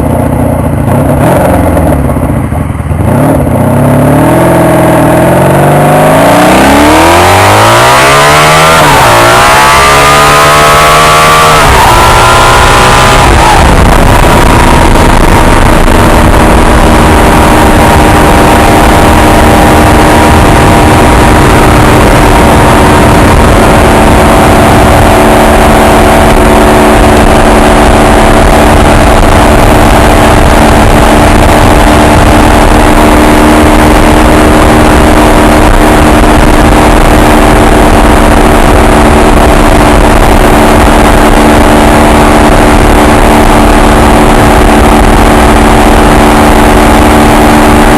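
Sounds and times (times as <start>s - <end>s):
motorcycle engine droning: 0.0s - 47.9s
wind and road noise: 0.0s - 47.9s.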